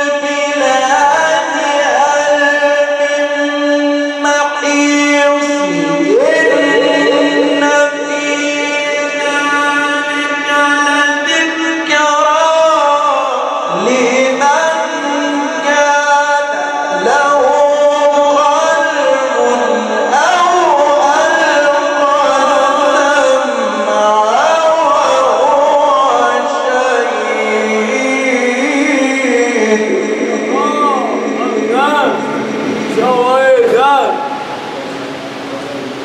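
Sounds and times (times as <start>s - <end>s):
man chanting melodically: 0.0s - 36.0s.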